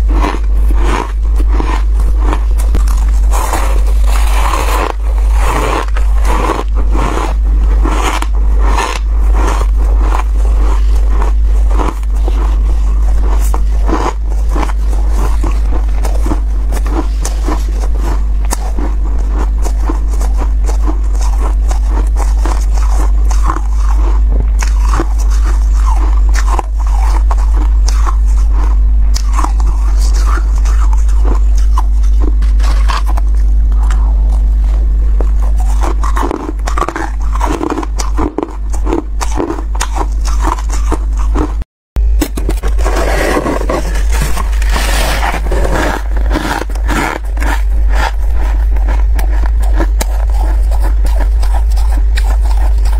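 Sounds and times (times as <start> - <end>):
chewing crisp frost: 0.0 - 41.6, 42.7 - 52.9
steady low hum: 0.0 - 52.9.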